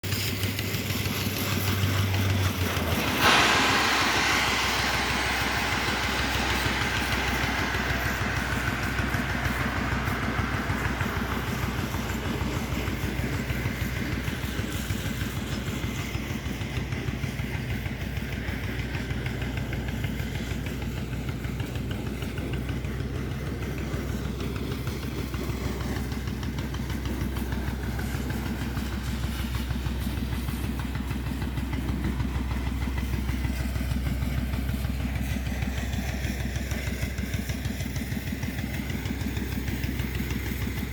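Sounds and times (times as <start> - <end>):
engine humming: 0.0 - 40.9
broad air hiss: 0.1 - 40.9.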